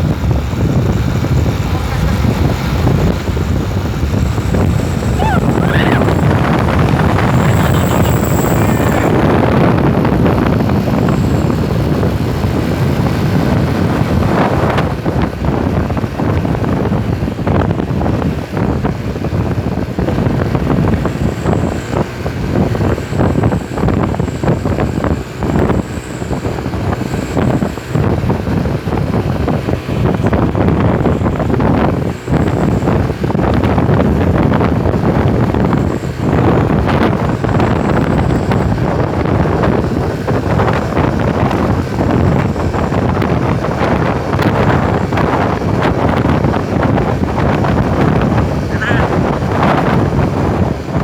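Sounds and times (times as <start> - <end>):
truck engine and road noise: 0.0 - 51.0
wind buffeting microphone: 0.0 - 51.0.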